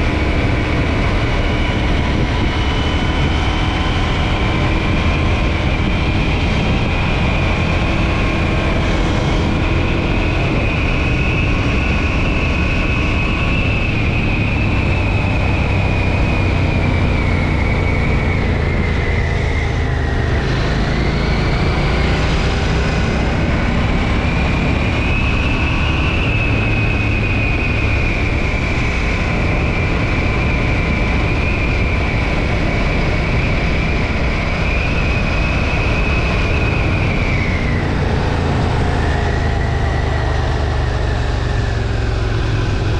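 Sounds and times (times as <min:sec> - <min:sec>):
motorcycle engine cruising: 0:00.0 - 0:42.9
road and wind noise: 0:00.0 - 0:42.9.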